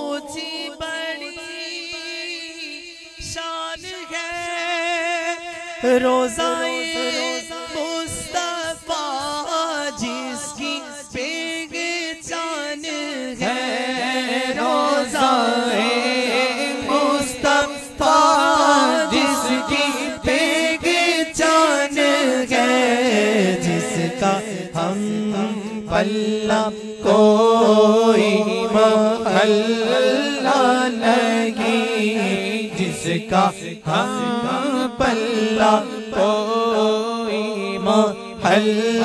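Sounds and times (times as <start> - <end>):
man singing unaccompanied: 0.0 - 39.0.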